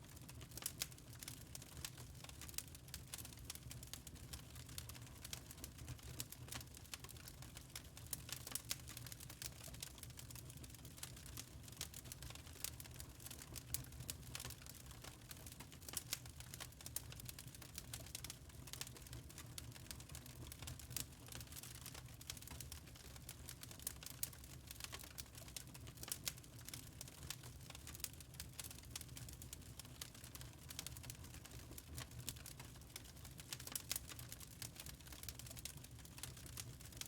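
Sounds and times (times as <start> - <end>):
wood fire crackling: 0.1 - 37.0.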